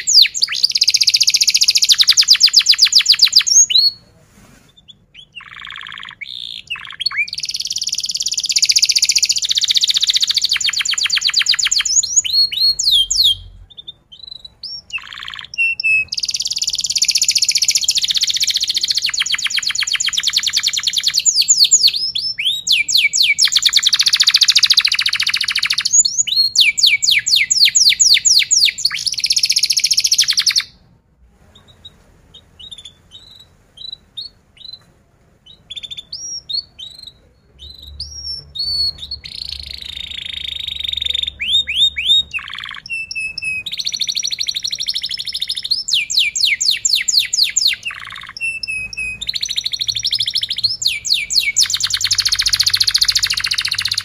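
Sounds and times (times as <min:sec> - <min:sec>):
canary singing trills: 0:00.0 - 0:04.0, 0:04.7 - 0:30.8, 0:31.5 - 0:54.0.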